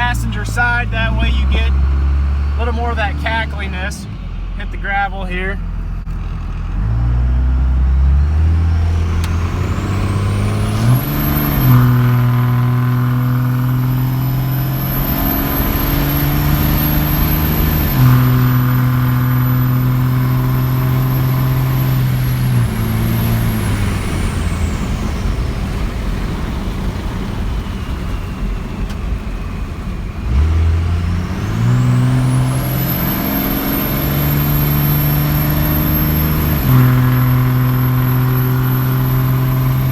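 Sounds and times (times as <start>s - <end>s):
diesel engine at full throttle: 0.0s - 39.9s.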